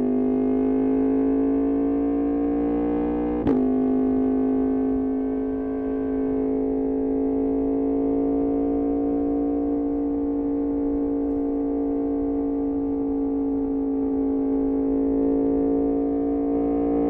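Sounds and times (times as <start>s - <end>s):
motorcycle engine droning: 0.0s - 17.0s.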